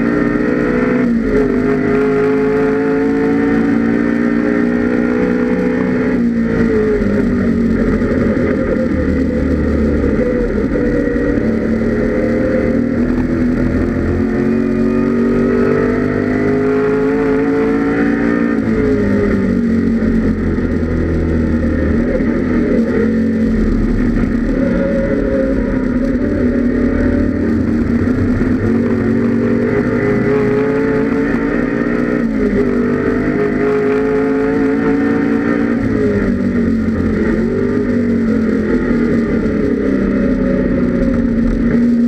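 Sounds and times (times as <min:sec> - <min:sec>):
race car engine at full throttle: 0:00.0 - 0:42.0.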